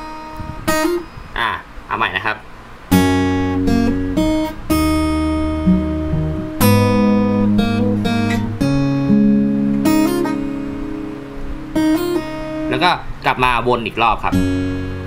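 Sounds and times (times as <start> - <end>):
fingerpicked acoustic guitar: 0.0 - 1.3, 2.9 - 13.2, 14.2 - 15.0.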